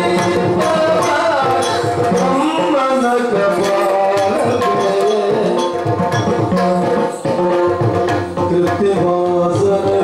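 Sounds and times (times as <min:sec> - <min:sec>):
drums beating fast: 0:00.0 - 0:10.0
held melodic line: 0:00.0 - 0:10.0.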